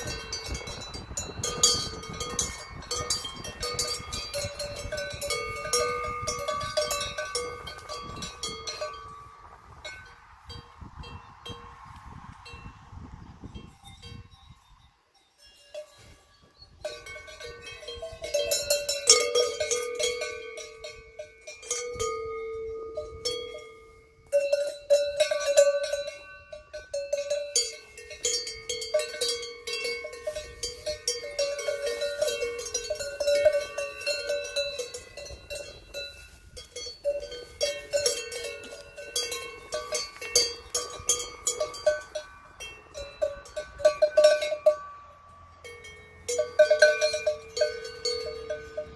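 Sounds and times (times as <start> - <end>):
cowbells clanking: 0.0 - 11.8, 13.6 - 48.9.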